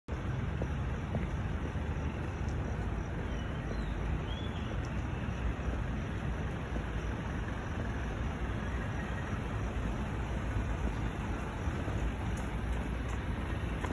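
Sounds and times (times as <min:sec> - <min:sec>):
traffic on wet road: 0:00.1 - 0:13.9.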